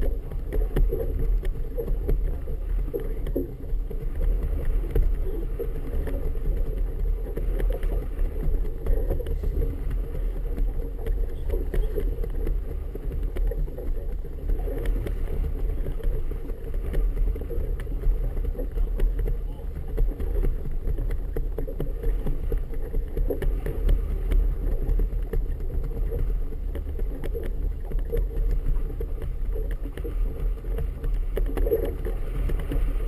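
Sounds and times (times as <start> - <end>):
waves slapping hull: 0.0 - 33.0
wind on microphone: 0.0 - 33.0.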